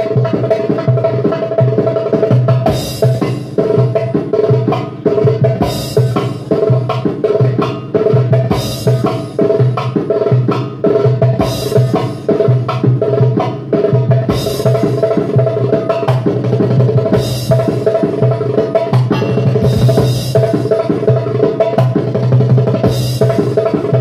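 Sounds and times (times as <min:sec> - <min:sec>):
goblet drum played fast: 0:00.0 - 0:24.0.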